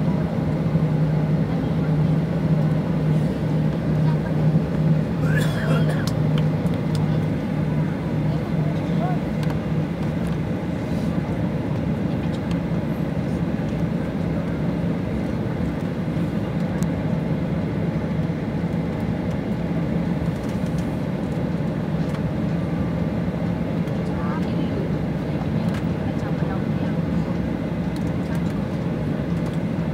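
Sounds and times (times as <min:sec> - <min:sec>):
jet engine cabin drone: 0:00.0 - 0:29.9.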